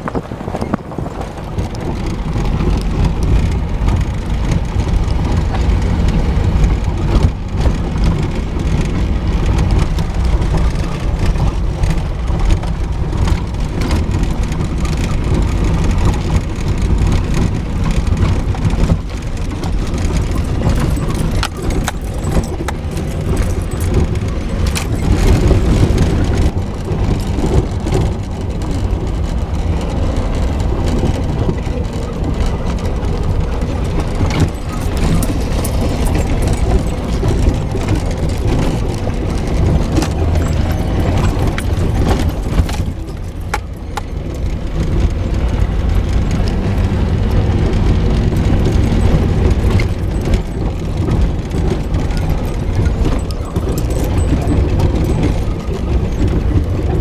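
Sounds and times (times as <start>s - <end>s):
engine low rumble: 0.0s - 57.0s
vehicle knocks and rattles: 0.0s - 57.0s.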